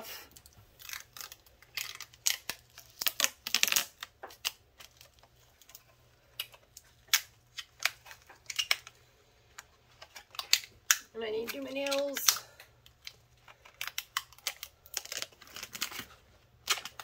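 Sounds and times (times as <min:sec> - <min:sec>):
adhesive backing peeling crackles: 0:00.3 - 0:17.0.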